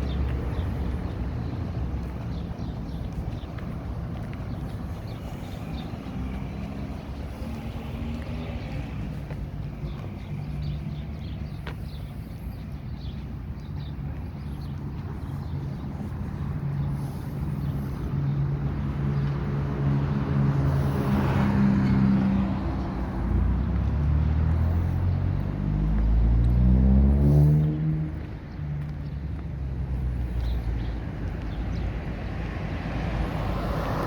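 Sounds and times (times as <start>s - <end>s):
vehicle passing: 0.0s - 34.0s.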